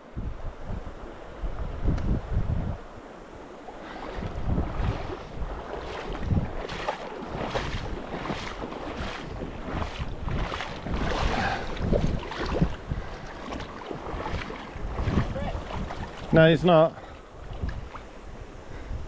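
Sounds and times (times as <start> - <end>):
wind buffeting microphone: 0.0 - 19.0
river water rushing: 2.8 - 18.4.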